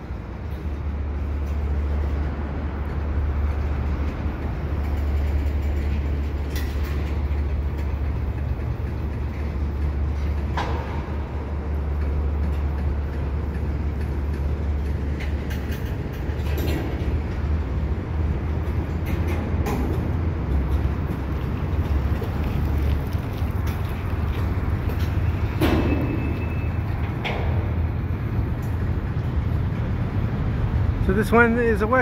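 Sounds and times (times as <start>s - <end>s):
freight train rumbling over bridge: 0.0s - 32.0s.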